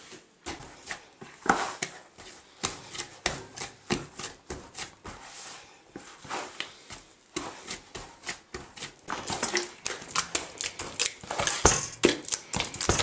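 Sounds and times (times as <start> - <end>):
dough slapping in a bowl: 0.0 - 13.0.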